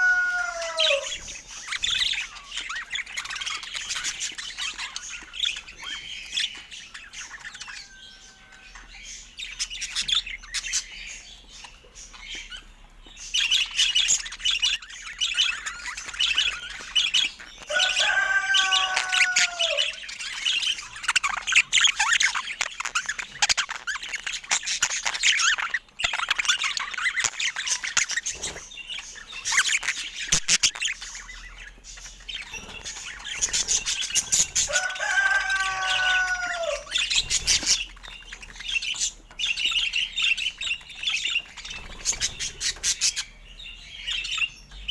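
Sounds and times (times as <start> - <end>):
budgerigar chirping and twittering: 0.0 - 44.9.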